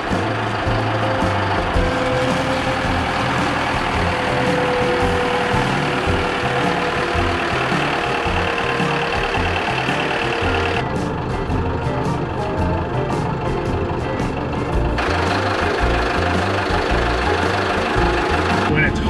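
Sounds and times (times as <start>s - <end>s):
machine whine: 0.0s - 19.0s
snow groomer engine and tracks: 0.0s - 19.0s.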